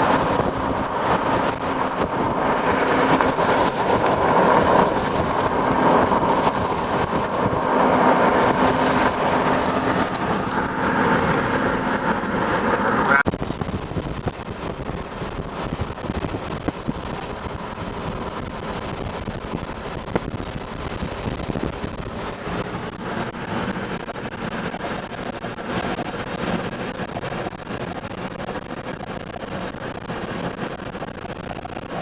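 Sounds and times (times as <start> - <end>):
engine and road rumble: 0.0 - 32.0
strong wind rushing: 0.0 - 32.0.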